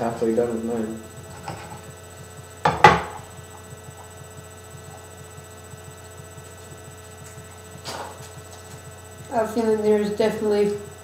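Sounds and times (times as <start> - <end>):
electrical hum with rapid pulse: 0.0 - 11.0.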